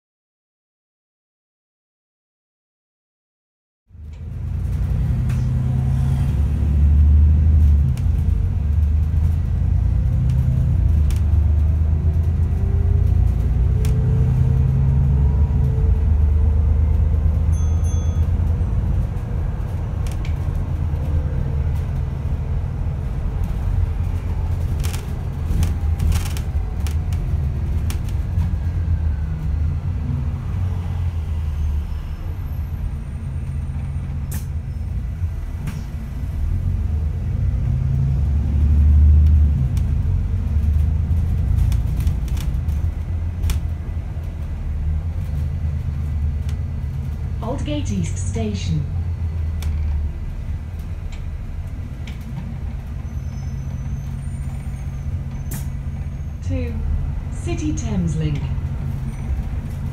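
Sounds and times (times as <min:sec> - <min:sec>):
bus drivetrain and road rumble: 0:03.9 - 0:59.9.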